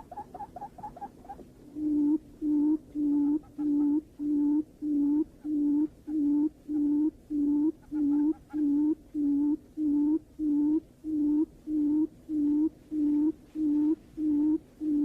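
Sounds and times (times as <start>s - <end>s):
bird hooting call: 0.0s - 15.0s.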